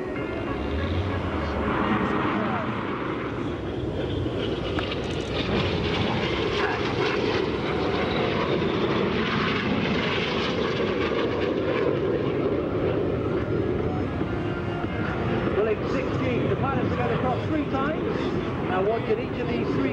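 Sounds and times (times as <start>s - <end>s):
jet aircraft engines rushing: 0.0s - 19.9s.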